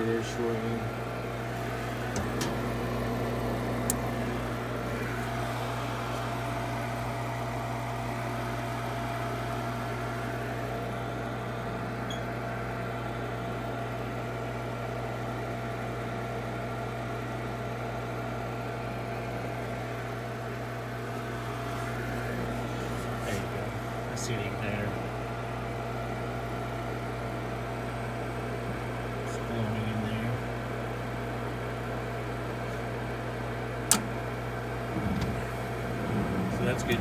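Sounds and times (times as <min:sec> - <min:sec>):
furnace motor hum: 0:00.0 - 0:37.0.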